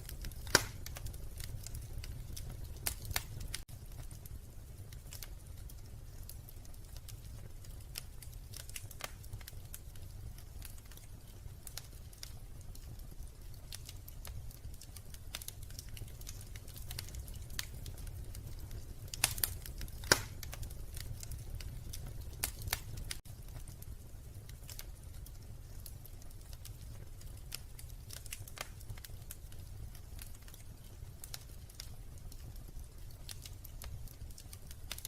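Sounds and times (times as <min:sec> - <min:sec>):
loud pops from fire: 0:00.0 - 0:35.0
wood fire crackling: 0:00.0 - 0:35.0.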